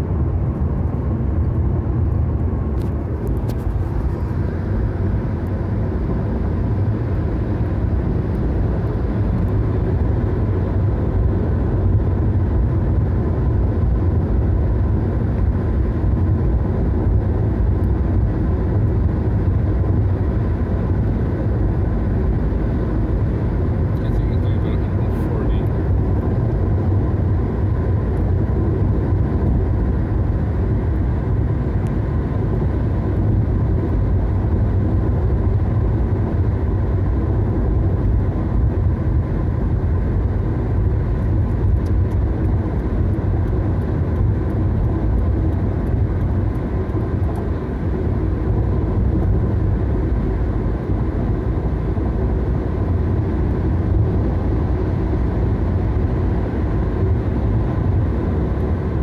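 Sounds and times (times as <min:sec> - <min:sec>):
car cabin tyre and wind rumble: 0:00.0 - 0:59.0.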